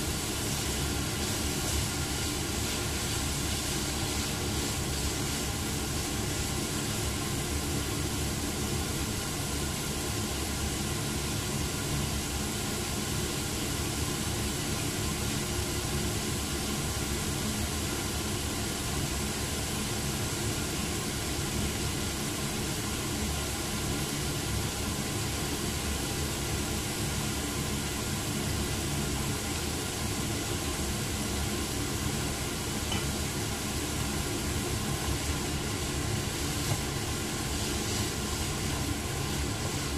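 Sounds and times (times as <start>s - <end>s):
meat sizzling in oil: 0.0s - 39.9s.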